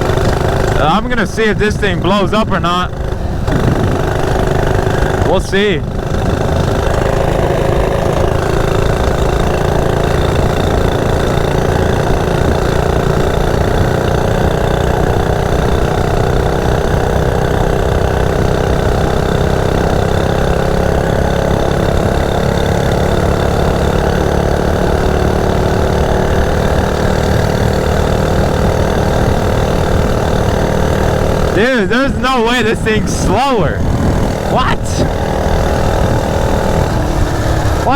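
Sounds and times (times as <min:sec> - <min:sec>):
minibike engine running: 0:00.0 - 0:37.9.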